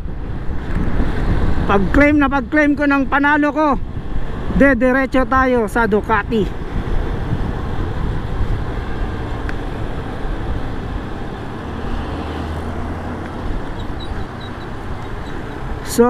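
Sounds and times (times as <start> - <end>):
road noise: 0.0 - 16.0
traffic: 0.0 - 16.0
wind noise: 0.0 - 16.0.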